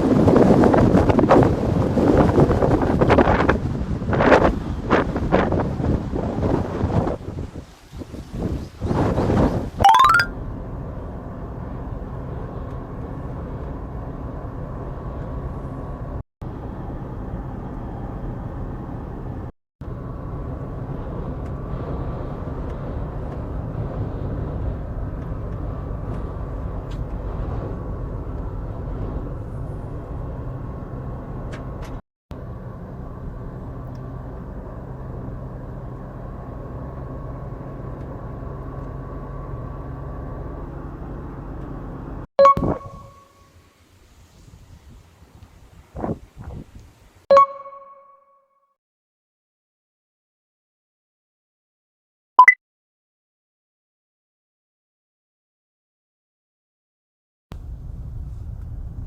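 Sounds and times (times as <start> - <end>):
vehicle rumble and road noise: 0.0 - 47.3, 57.5 - 59.0.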